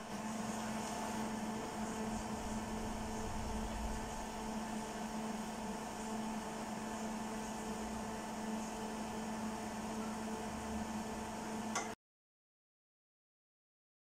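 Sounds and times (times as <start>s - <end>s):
milling machine electrical hum: 0.0s - 12.0s.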